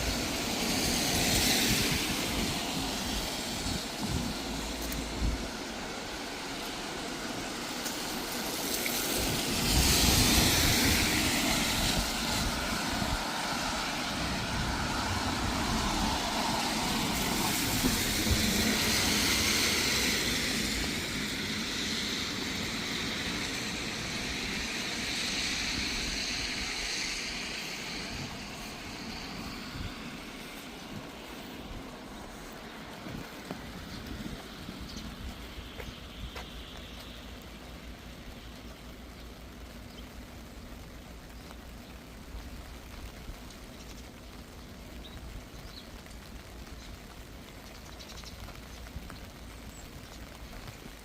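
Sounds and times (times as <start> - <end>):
city street traffic: 0.0 - 51.0.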